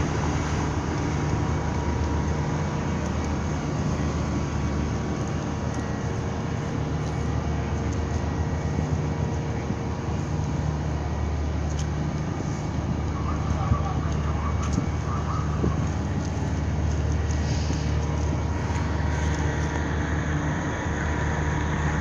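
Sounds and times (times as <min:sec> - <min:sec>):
ship engine droning: 0:00.0 - 0:22.0.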